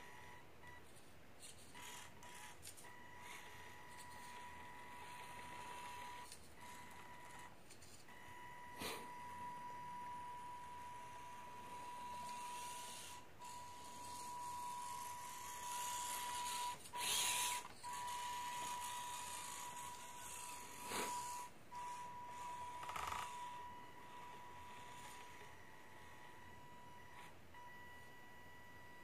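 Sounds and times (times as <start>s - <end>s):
small electric motor whining: 1.4s - 29.0s.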